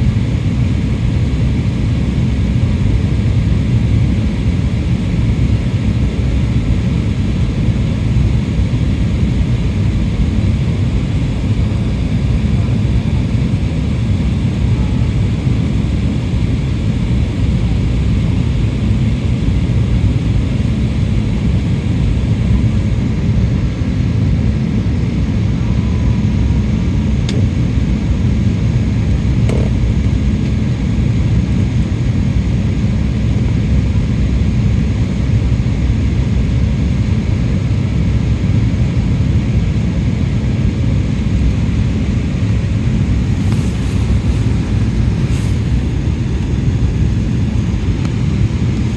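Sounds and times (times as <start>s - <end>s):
airliner cabin rumble: 0.0s - 48.9s.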